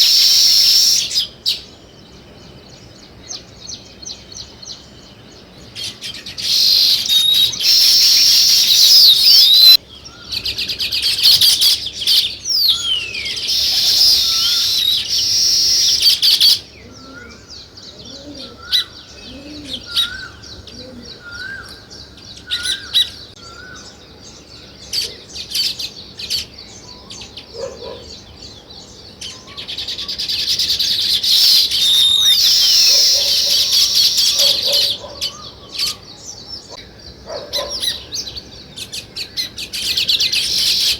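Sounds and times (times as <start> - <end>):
songbirds chattering: 0.0 - 40.9.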